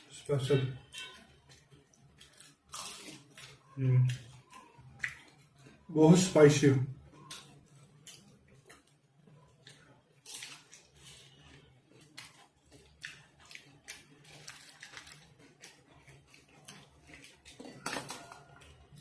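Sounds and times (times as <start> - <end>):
chewing and mouth smacks: 1.2 - 5.9, 7.1 - 19.0.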